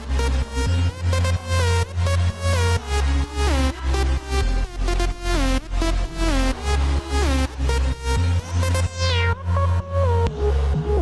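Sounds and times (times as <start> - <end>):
heavy bass pulse: 0.0 - 11.0
sliding synth notes: 0.0 - 11.0.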